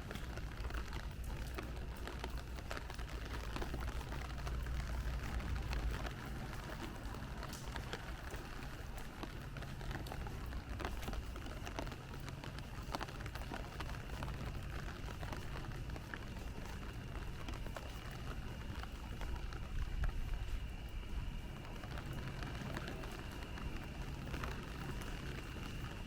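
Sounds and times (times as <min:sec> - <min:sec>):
rain on a street: 0:00.0 - 0:26.0.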